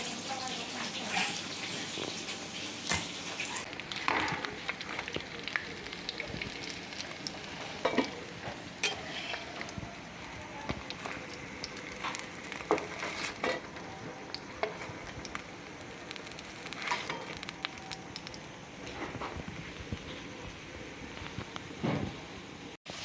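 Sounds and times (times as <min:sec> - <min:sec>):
food sizzling in hot oil: 0:00.0 - 0:21.8, 0:22.5 - 0:23.0.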